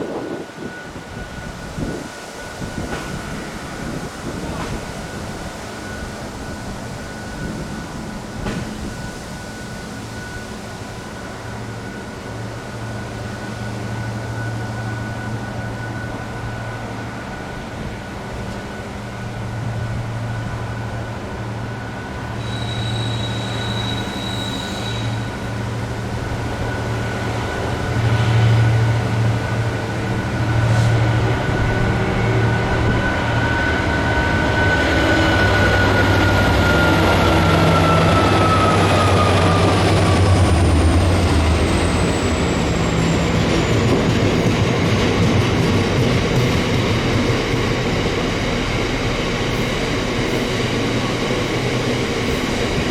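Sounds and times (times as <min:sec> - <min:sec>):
diesel train engine rumble: 0:00.0 - 0:52.9.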